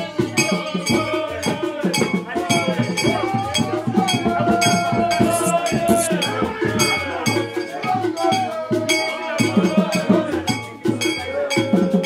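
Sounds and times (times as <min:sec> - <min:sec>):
music with drums and percussion: 0:00.0 - 0:12.0.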